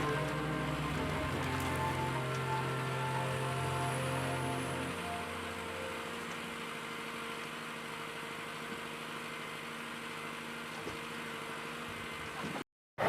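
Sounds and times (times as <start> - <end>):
heavy machinery engine running: 0.0 - 12.6.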